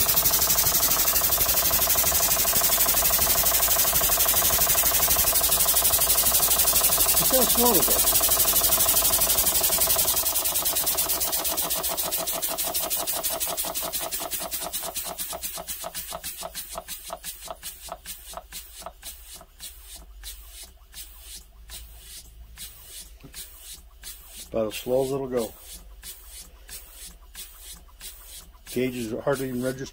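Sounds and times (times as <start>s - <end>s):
model engine exhaust puffing: 0.0s - 29.9s.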